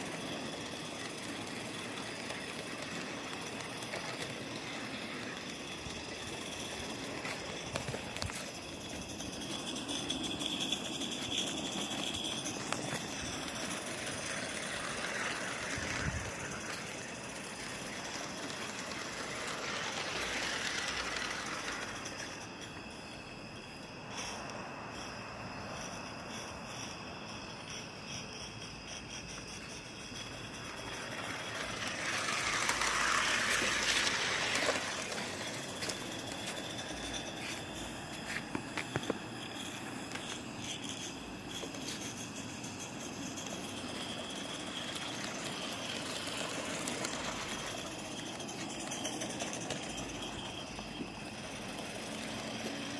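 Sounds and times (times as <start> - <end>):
steam hissing: 0.0 - 27.1, 29.4 - 52.9.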